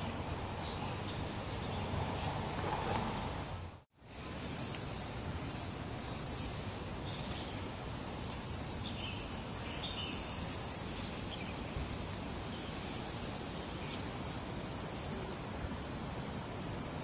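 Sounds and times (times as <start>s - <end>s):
outdoor hiss and rumble: 0.0s - 17.0s.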